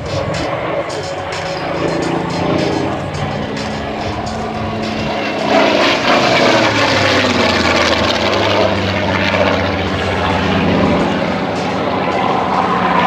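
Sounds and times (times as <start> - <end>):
propeller plane engine passing: 0.0 - 13.0.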